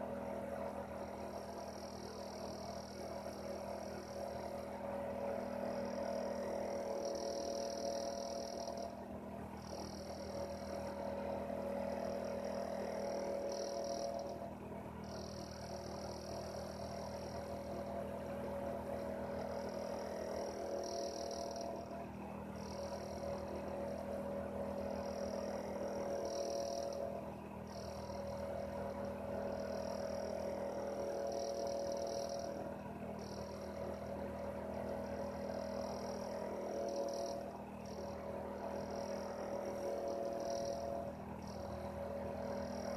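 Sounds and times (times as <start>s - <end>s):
heater low hum: 0.0s - 42.9s
heater pulsing whir: 0.0s - 42.9s.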